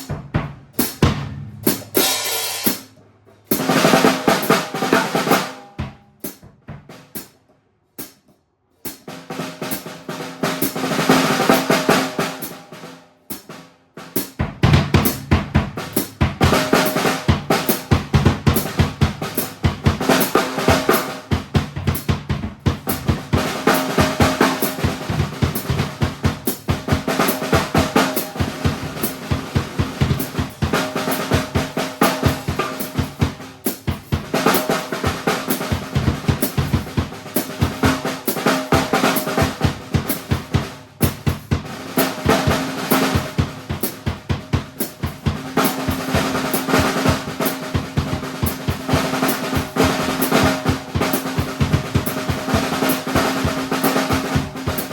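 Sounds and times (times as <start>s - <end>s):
acoustic drum kit groove: 0.0s - 54.9s.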